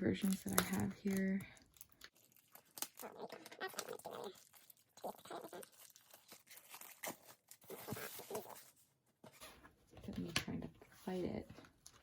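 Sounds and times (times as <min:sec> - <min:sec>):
plastic and cardboard crinkling: 0:00.0 - 0:12.0.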